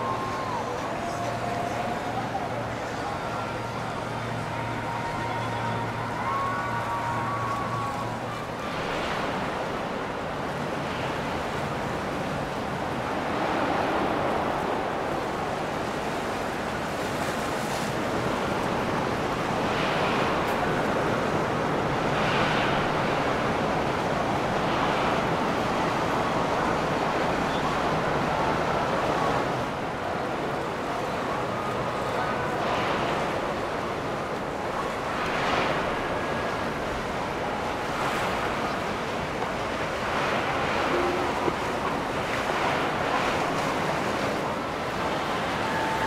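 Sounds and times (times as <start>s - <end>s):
faint low boat engine hum: 0.0s - 46.0s
water rushing: 0.0s - 46.0s.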